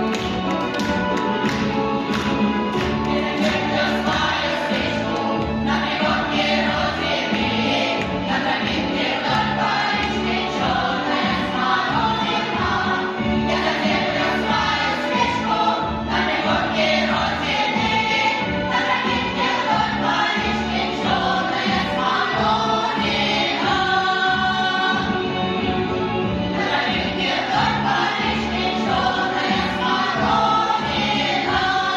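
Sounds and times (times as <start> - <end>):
instrumental backing with steady beat: 0.0 - 31.9
group of voices singing: 1.6 - 25.4, 26.4 - 31.9.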